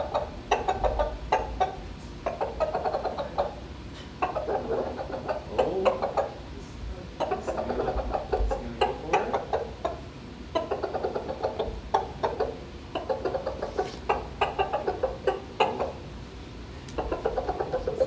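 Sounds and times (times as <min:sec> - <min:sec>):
rooster clucking: 0:00.0 - 0:16.2, 0:16.9 - 0:18.0.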